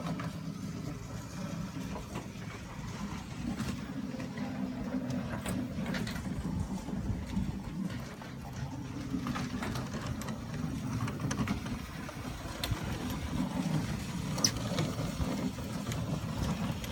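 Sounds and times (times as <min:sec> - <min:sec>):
ride car running on track: 0:00.0 - 0:16.9.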